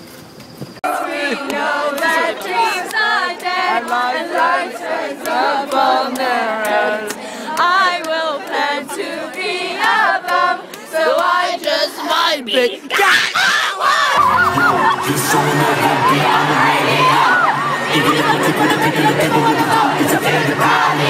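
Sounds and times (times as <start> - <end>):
crowd singing loudly: 0.8 - 21.0.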